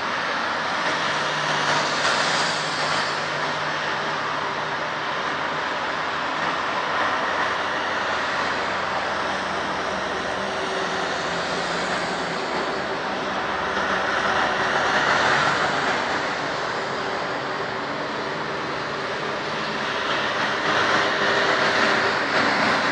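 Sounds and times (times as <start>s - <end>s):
road traffic passing: 0.0s - 22.9s
surf roaring on shore: 0.0s - 22.9s.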